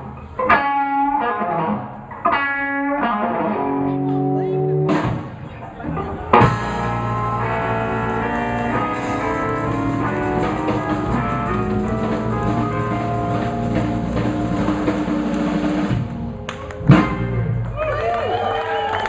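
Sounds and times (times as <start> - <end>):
blues band playing: 0.0 - 18.2.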